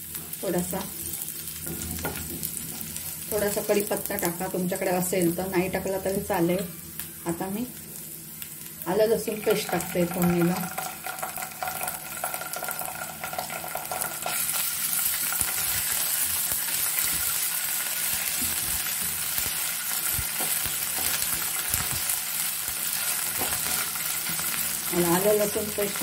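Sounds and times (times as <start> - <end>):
onion sizzling in hot oil: 0.0 - 26.0.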